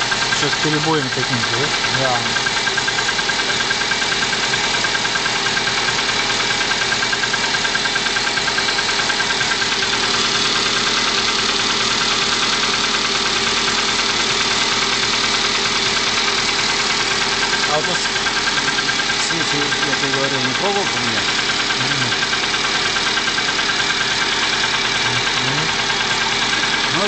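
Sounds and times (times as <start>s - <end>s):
car engine idling with misfires: 0.0s - 27.0s.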